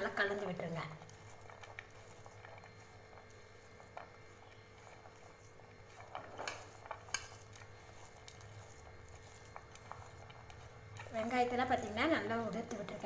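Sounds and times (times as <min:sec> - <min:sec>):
fingers mixing food rustling: 0:00.0 - 0:13.0.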